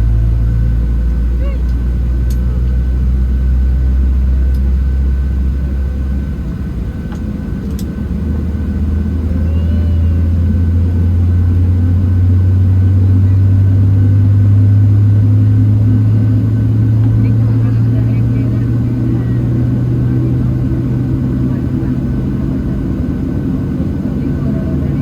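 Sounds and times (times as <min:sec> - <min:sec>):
jet engines droning: 0:00.0 - 0:25.0.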